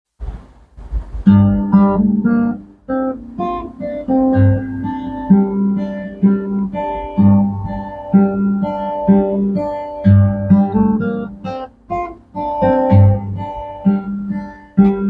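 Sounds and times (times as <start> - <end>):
acoustic guitar slow piece: 0.2 - 15.0.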